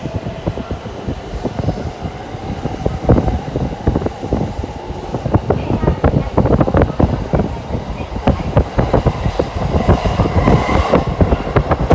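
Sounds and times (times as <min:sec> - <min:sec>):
train rumble from inside: 0:00.0 - 0:11.9.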